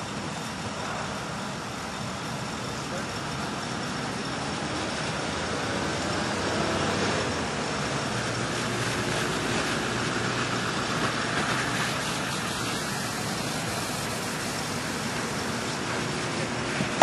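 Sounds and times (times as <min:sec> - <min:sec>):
distant road traffic hiss: 0:00.0 - 0:17.0.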